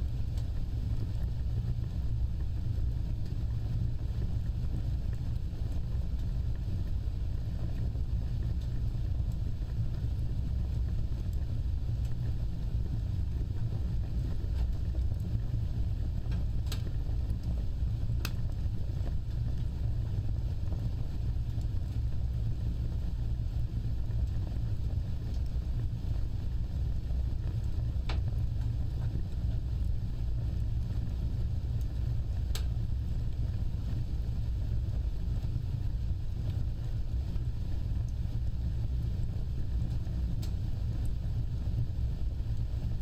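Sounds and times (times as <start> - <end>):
fire crackling: 0.0 - 43.0
fire roaring: 0.0 - 43.0.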